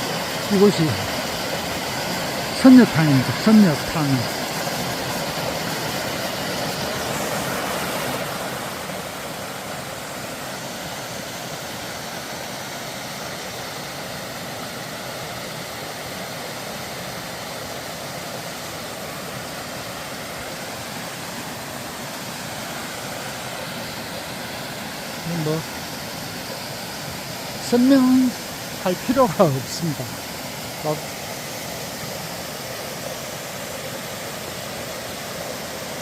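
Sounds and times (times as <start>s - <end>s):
water rushing down small waterfall: 0.0s - 36.0s.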